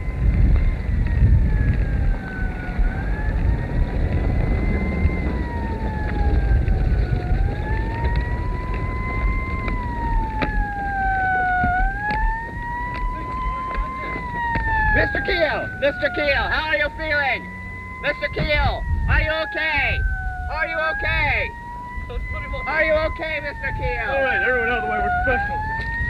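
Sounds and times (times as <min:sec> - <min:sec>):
low rumble: 0:00.0 - 0:26.0
siren wailing: 0:00.0 - 0:26.0.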